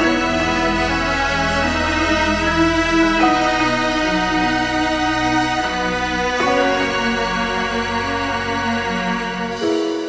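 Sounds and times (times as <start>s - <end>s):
instrumental music with sustained chords: 0.0s - 10.0s.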